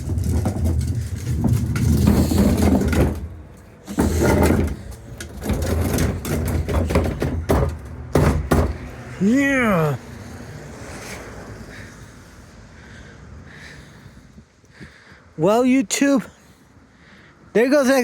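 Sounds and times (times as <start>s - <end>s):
truck engine rumbling: 0.0s - 14.6s.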